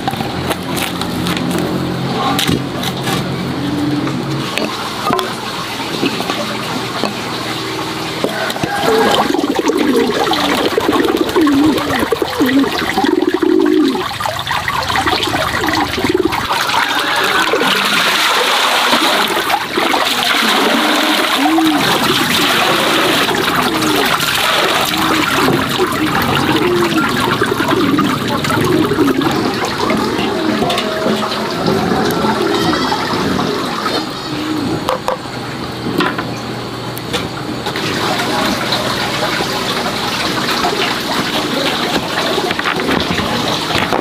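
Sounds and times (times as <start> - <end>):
water running and gurgling: 0.0 - 44.0.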